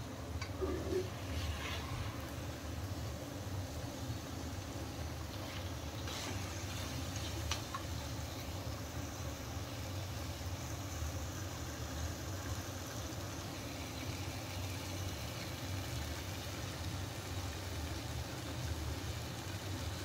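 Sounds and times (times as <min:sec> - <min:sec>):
gas stove low hum: 0:00.0 - 0:16.6
food sizzling in a pan: 0:00.4 - 0:20.0.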